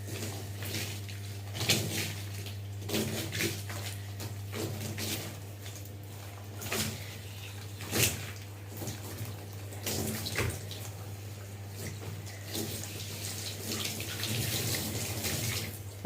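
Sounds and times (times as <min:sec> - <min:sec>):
running water splashing: 0:00.0 - 0:16.0.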